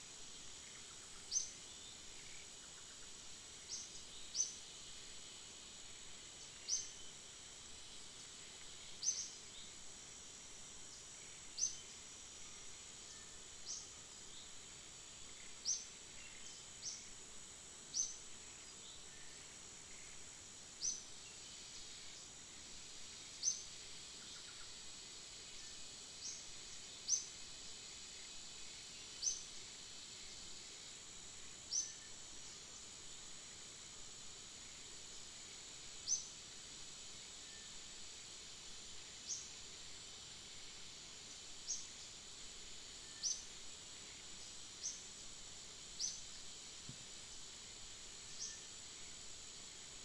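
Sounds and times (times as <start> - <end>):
high-pitched insect drone: 0.0 - 50.0.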